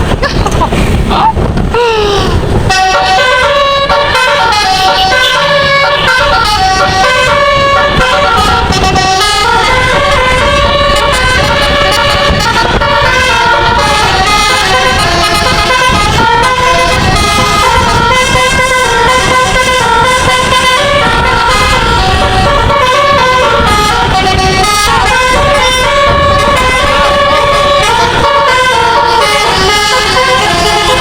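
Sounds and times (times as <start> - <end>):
steady low rumble: 0.0 - 31.0
musical air horn tune: 2.6 - 31.0.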